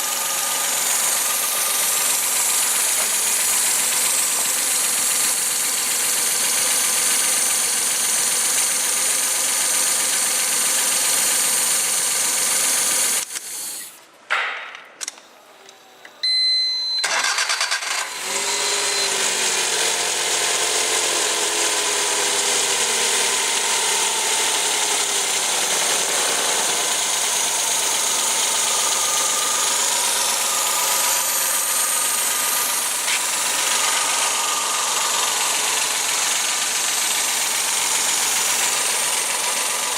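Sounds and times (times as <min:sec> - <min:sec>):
car engine running: 0:00.0 - 0:11.6, 0:18.8 - 0:39.9
engine cranking and restarting: 0:00.0 - 0:13.8, 0:17.0 - 0:39.9.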